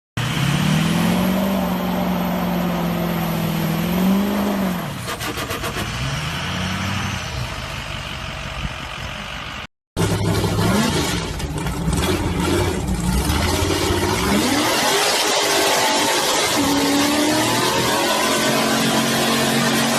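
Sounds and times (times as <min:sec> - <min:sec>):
truck engine revving: 0:00.2 - 0:19.9.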